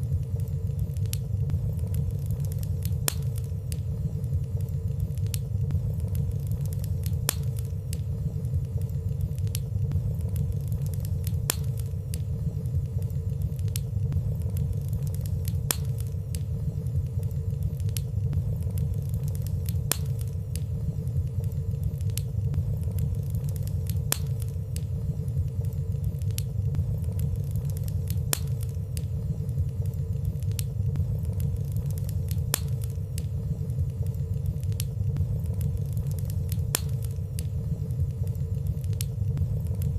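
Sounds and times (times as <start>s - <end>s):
fire crackling ticks: 0.0s - 39.9s
fire rumbling: 0.0s - 39.9s.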